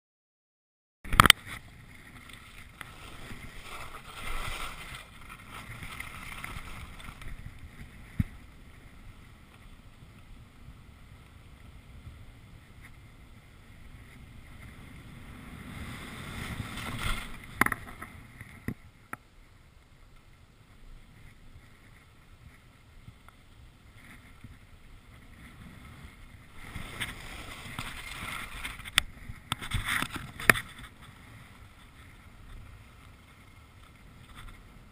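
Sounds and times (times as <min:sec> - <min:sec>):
skis scraping over packed snow: 0:01.1 - 0:34.9.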